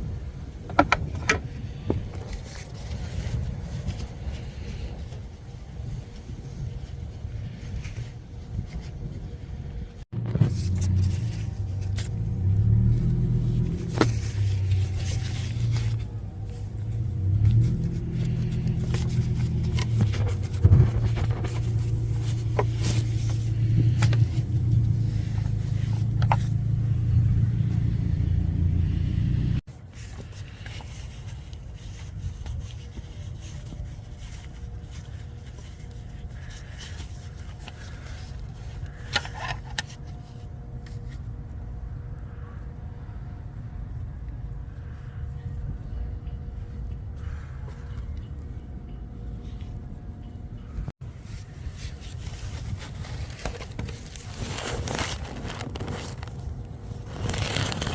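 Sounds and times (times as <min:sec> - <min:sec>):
low background hum: 0:00.0 - 0:57.9.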